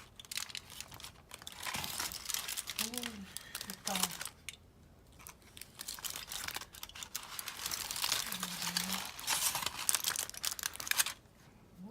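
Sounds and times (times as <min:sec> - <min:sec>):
crinkling and rustling: 0:00.0 - 0:11.5.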